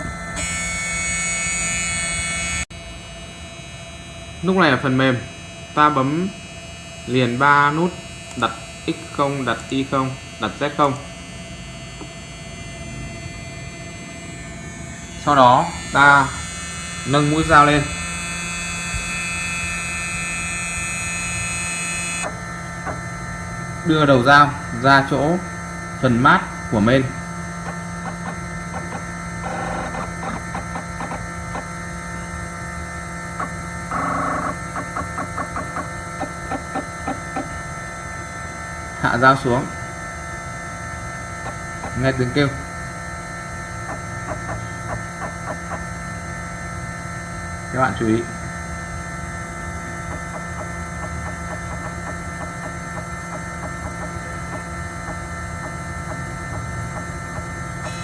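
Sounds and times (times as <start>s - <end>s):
cnc spindle motor humming: 0.0s - 58.0s
short machine buzz: 0.0s - 58.0s.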